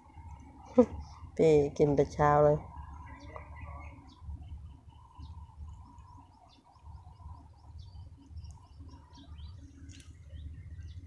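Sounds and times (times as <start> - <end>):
low rumble: 0.0 - 11.0
small birds chirping: 0.1 - 11.0.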